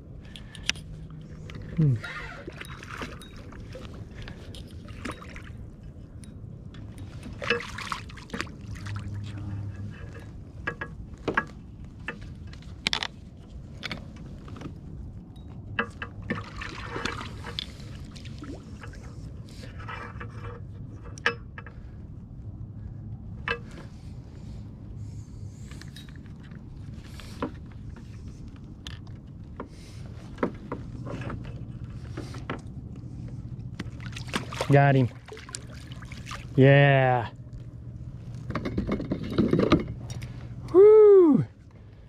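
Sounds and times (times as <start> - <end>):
water splashing and sloshing: 0.0 - 42.0.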